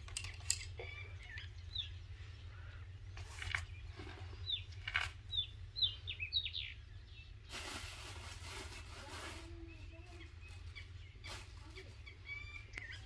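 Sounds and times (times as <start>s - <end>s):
bird chirping: 0.0s - 7.8s, 9.5s - 13.0s
low outdoor rumble: 0.0s - 13.0s.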